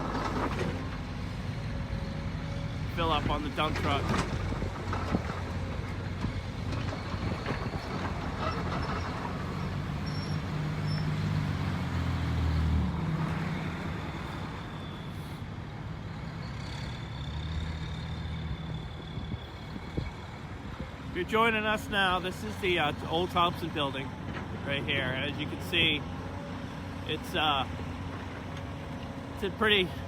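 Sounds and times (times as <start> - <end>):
heavy diesel machinery running: 0.0 - 16.2, 17.0 - 30.0.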